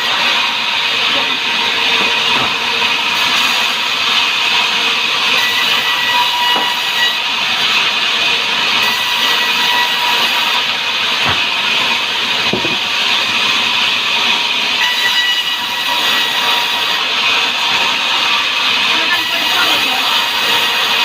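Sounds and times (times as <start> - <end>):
saw cutting through log: 0.0 - 21.0.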